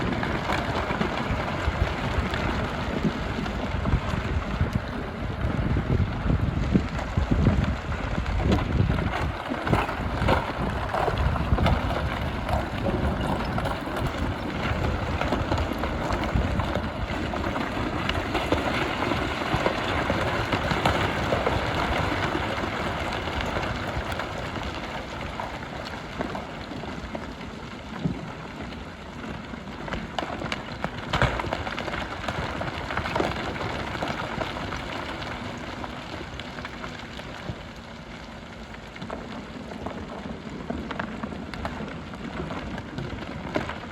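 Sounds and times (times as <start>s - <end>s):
gravel and stones clattering: 0.0s - 43.9s.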